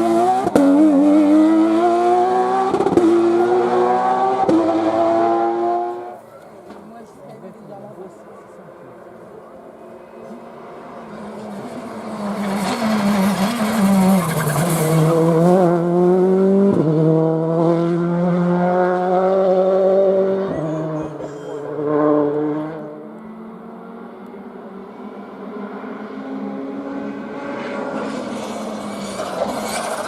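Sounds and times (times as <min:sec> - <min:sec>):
rally car engine at full throttle: 0:00.0 - 0:30.0.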